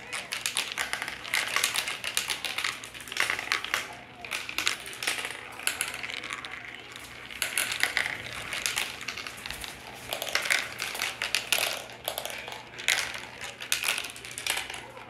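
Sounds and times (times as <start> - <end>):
marbles rattling down plastic track: 0.0 - 15.0.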